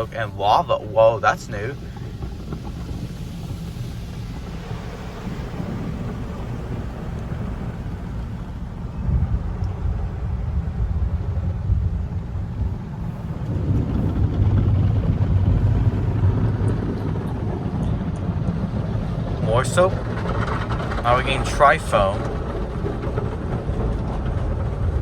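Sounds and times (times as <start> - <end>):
car wash equipment rumble and spray: 0.0 - 25.0.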